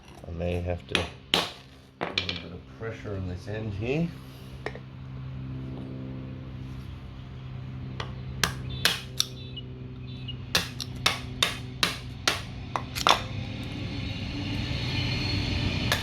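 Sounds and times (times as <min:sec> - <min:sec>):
passing train rumble: 0:02.5 - 0:16.0.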